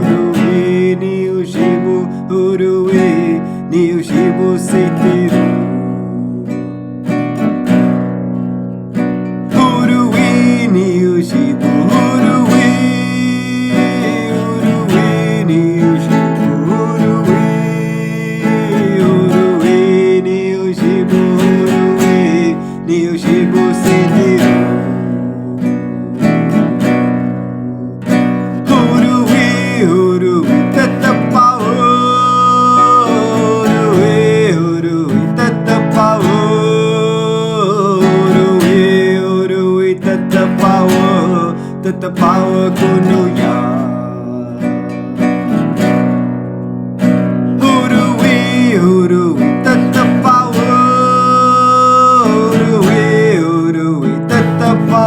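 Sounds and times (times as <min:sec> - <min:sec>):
person singing a chant: 0:00.0 - 0:06.7, 0:09.5 - 0:26.9, 0:27.6 - 0:44.9, 0:47.6 - 0:55.0
acoustic guitar strumming: 0:00.0 - 0:55.0.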